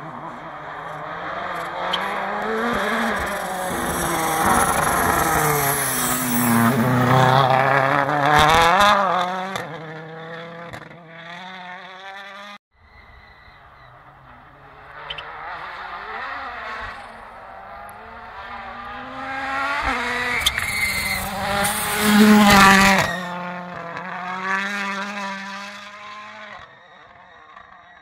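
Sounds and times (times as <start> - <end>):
rally car engine revving past: 0.0 - 12.5, 14.3 - 26.6.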